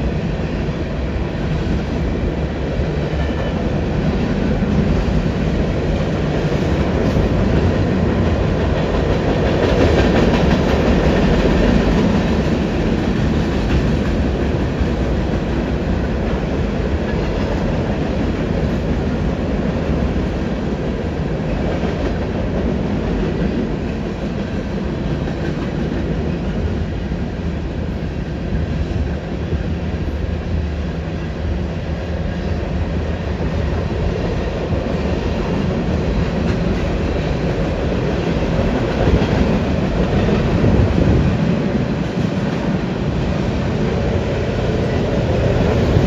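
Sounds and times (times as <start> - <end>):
freight train rumbling over bridge: 0.0 - 46.0.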